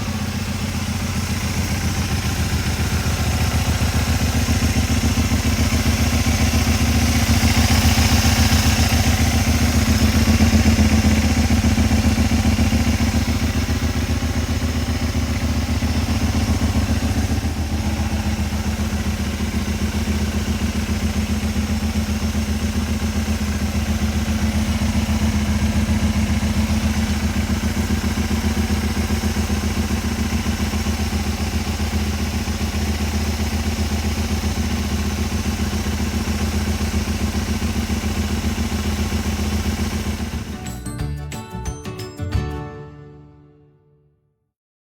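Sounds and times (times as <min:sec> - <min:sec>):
motorcycle engine idling: 0:00.0 - 0:40.6.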